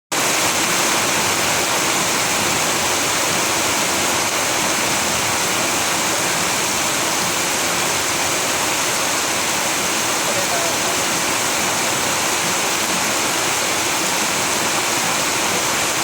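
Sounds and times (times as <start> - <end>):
steady rain hiss: 0.2 - 16.0.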